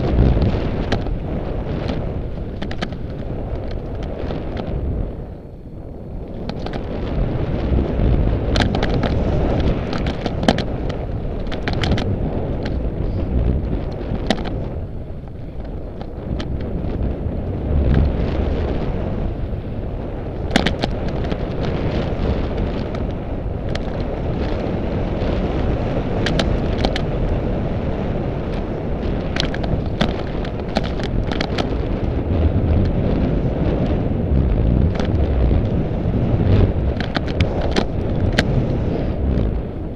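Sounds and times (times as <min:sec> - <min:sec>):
bike rattling over bumps: 0:00.0 - 0:39.9
bike tyres rumbling over dirt: 0:00.0 - 0:39.9
wind buffeting microphone: 0:00.0 - 0:39.9.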